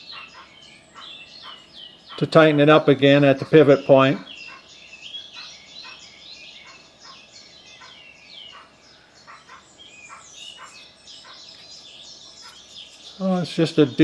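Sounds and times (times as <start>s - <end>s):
small birds chirping and singing: 0.0s - 14.0s.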